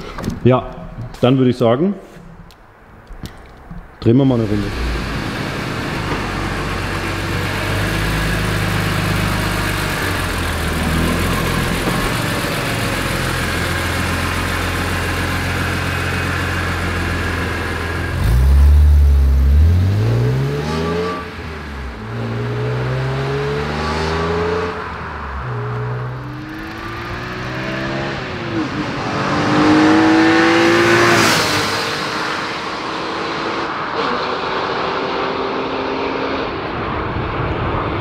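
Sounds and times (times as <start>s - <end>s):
car engine accelerating: 4.3s - 38.0s.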